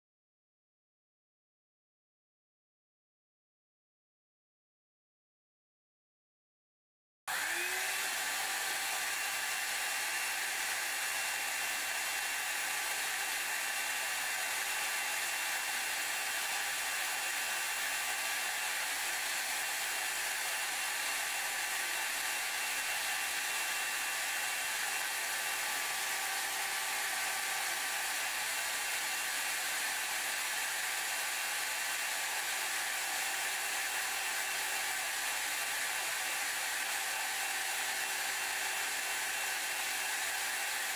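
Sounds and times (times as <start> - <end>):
hair dryer blowing: 7.3 - 40.9.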